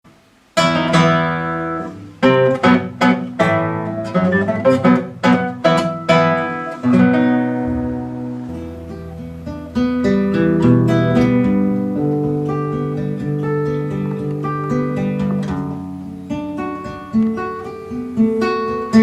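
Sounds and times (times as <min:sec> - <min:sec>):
acoustic guitar strumming: 0:00.1 - 0:19.0.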